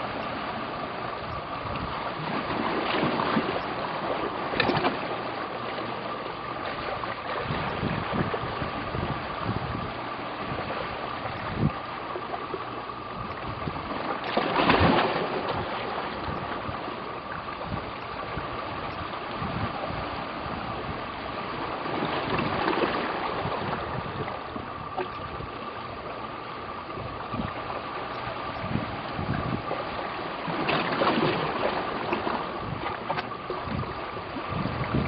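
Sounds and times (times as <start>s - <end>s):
faint steady hum: 0.0s - 35.0s
water at shoreline: 0.0s - 35.0s
wind: 0.0s - 35.0s.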